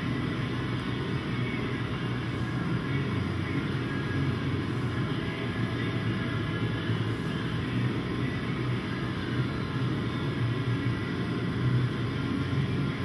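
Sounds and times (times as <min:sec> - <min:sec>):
mechanical drone with low hum: 0:00.0 - 0:13.0.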